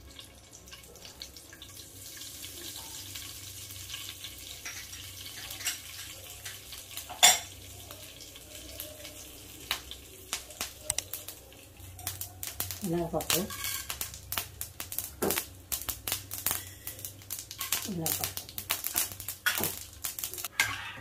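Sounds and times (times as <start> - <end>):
hot oil sizzling in a pan: 0.0 - 20.9.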